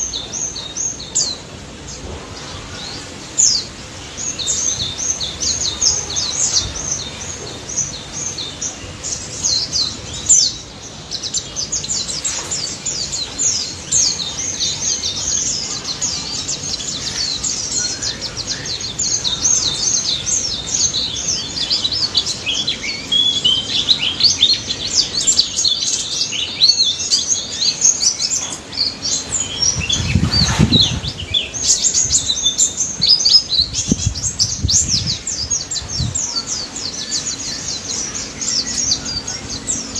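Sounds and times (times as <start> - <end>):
bird twittering and trilling: 0.0 - 39.9.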